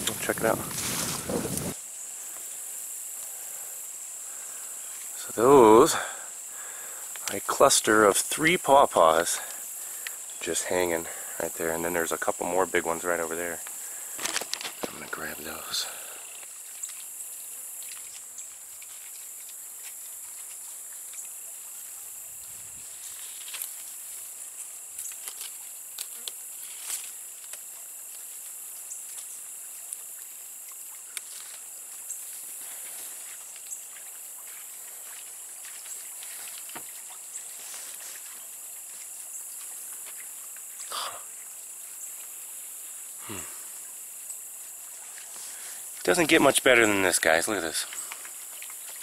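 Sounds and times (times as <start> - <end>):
leaves and twigs rustling: 0.0 - 5.3, 9.0 - 40.8, 44.1 - 49.0
insects droning: 0.0 - 49.0.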